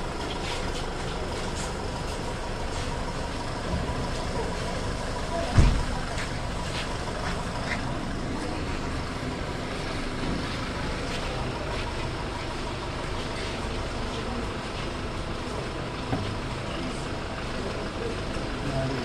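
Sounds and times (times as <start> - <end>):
crowd voices murmuring and crying: 0.0 - 19.0
vehicle engine running: 0.0 - 19.0.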